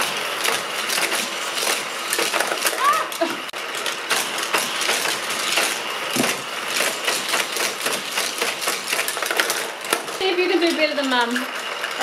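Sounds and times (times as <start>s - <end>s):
toy cars clattering on track: 0.0s - 12.0s
toy track boosters whirring: 0.0s - 12.0s.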